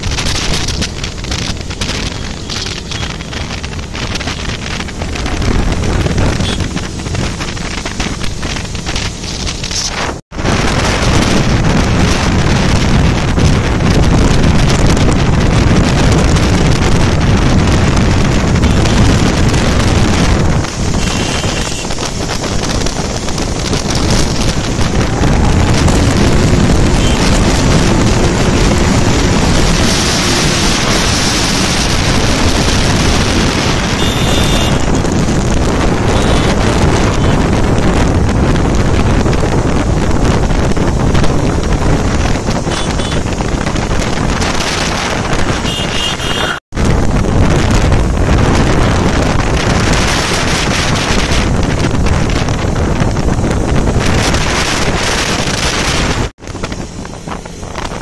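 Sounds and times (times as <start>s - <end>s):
motorcycle engines running: 0.0s - 58.0s
wind buffeting microphone: 0.0s - 58.0s.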